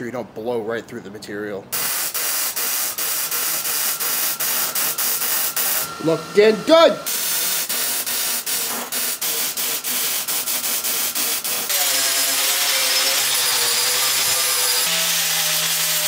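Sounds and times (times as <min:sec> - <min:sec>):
angle grinder grinding: 0:01.8 - 0:16.0
mig welder crackling: 0:01.8 - 0:16.0.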